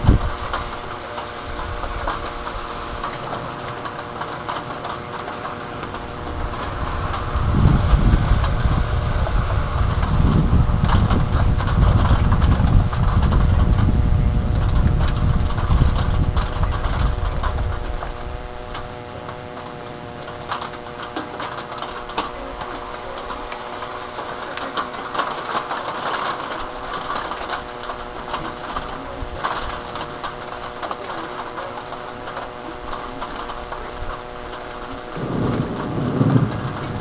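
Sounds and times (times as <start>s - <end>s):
deep rumble: 0.0s - 32.5s, 33.4s - 37.0s
rain and hail pattering: 0.0s - 37.0s
steady hum: 0.0s - 37.0s.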